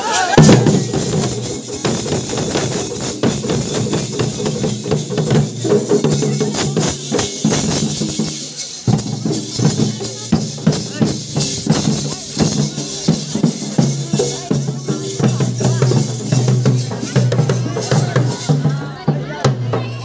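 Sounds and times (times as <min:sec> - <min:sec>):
barrel drums beaten with sticks: 0:00.3 - 0:20.0.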